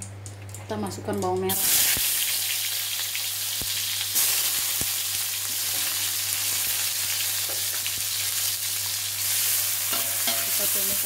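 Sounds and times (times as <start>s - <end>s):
shallots sizzling in hot oil: 0.6s - 11.0s.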